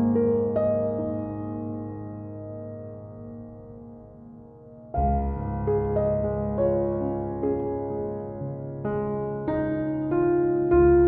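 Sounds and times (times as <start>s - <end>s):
slow piano-like keyboard melody: 0.0s - 11.0s.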